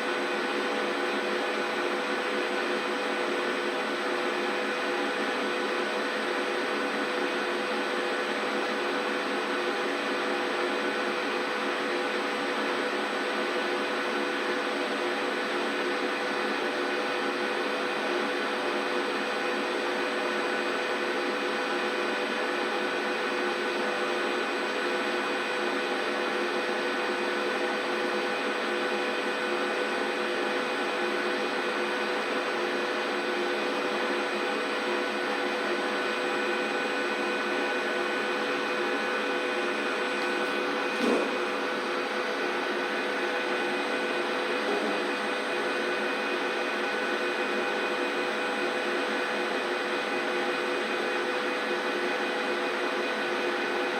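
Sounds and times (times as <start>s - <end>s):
washing machine humming: 0.0s - 53.9s.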